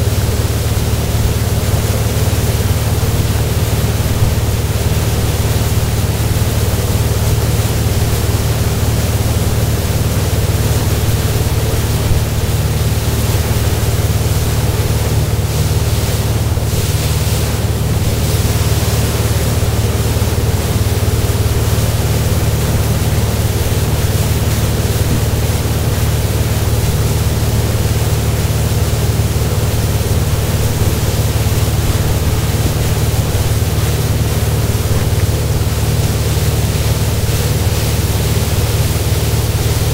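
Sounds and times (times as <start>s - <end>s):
boat engine drone: 0.0s - 39.9s
churning wake water: 0.0s - 39.9s.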